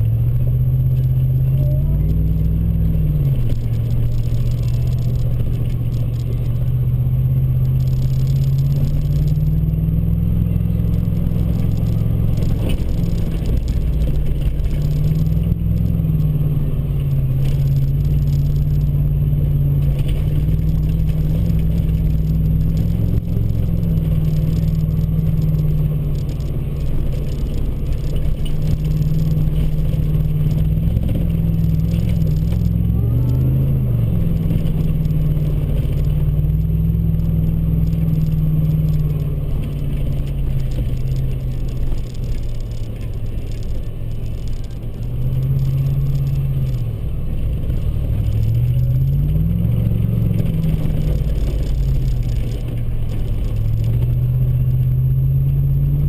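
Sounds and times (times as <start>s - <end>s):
pickup engine driving: 0.0s - 56.0s.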